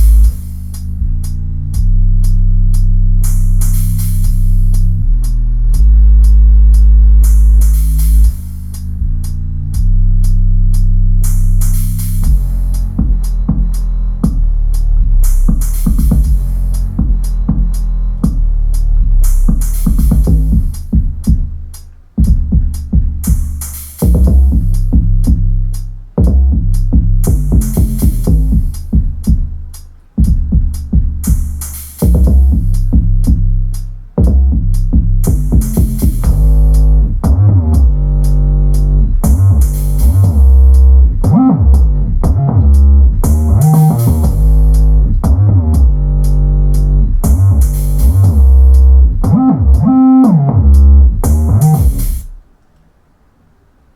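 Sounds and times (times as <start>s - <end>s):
electronic dance music with deep bass: 0.0s - 52.4s.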